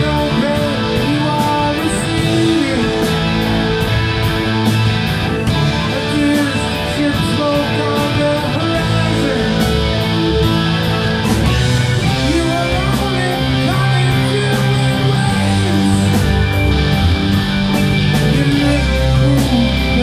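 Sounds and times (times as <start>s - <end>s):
electric guitars: 0.0s - 20.0s.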